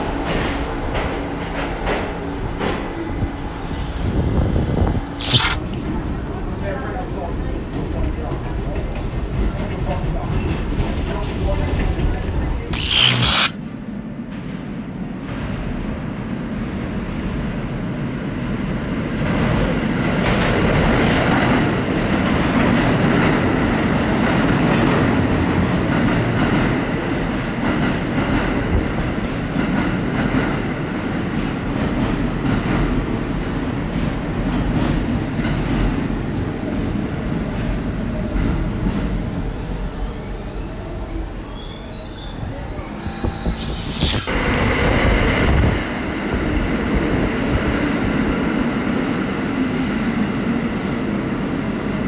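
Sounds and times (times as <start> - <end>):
subway train wheels rushing: 0.0 - 4.7, 6.0 - 12.6, 13.8 - 43.0, 44.3 - 52.0.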